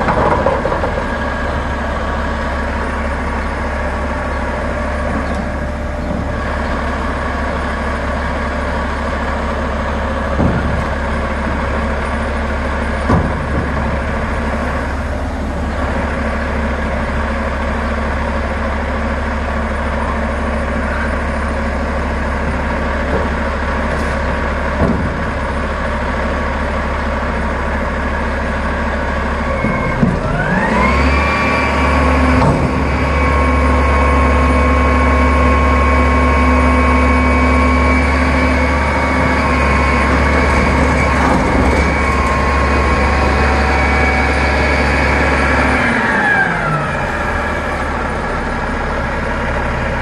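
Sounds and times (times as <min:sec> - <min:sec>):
garbage truck engine: 0:00.0 - 0:50.0.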